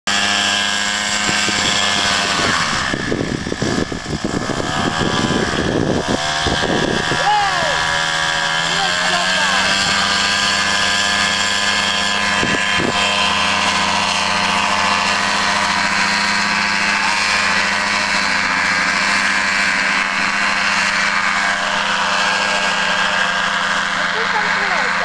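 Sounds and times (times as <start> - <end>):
paramotor engine and propeller: 0.0 - 25.0.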